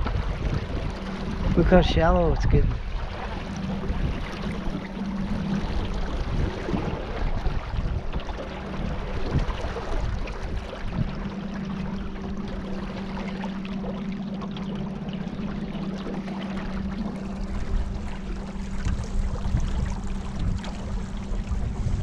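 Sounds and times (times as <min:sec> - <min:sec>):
boat motor humming: 0:00.0 - 0:22.0
water rushing past hull: 0:00.0 - 0:22.0.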